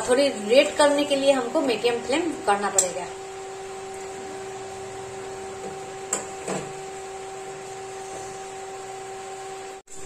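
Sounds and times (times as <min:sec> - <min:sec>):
deep-frying sizzle in hot oil: 0:00.0 - 0:10.0.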